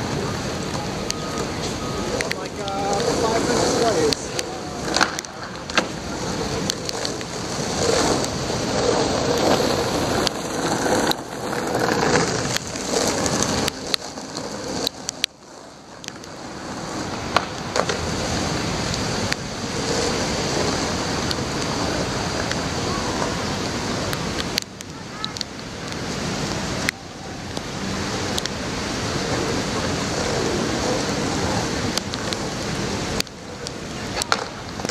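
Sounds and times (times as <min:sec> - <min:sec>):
steady rain: 0:00.0 - 0:34.9
wind: 0:00.0 - 0:34.9.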